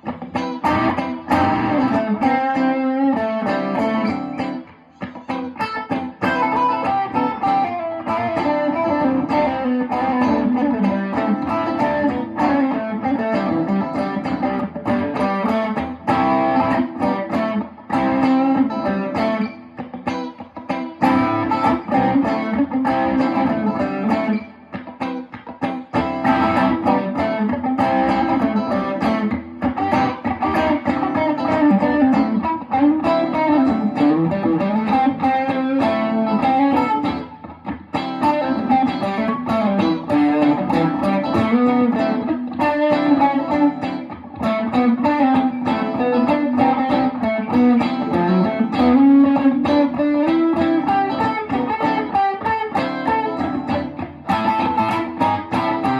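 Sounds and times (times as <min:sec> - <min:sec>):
electric guitar playing: 0:00.0 - 0:55.9.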